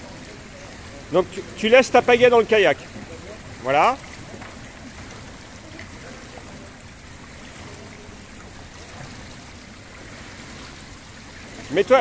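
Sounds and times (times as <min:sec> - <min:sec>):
swimmer moving through water: 0:00.0 - 0:12.0.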